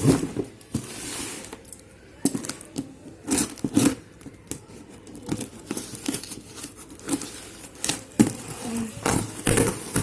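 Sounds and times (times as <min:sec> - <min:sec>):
plastic and cardboard packaging crackling: 0:00.0 - 0:10.0.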